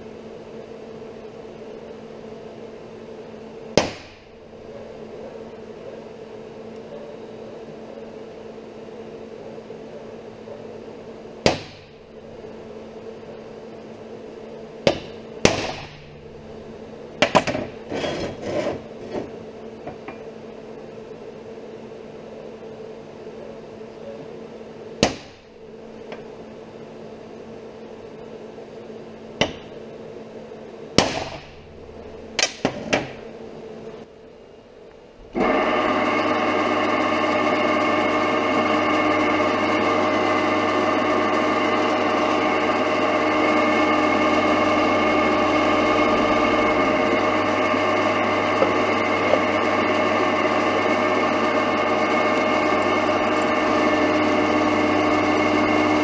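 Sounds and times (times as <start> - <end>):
steady background hum: 0.0 - 56.0.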